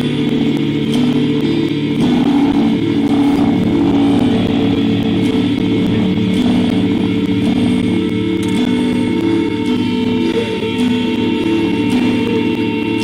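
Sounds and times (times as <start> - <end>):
minimalist instrumental music: 0.0 - 13.0.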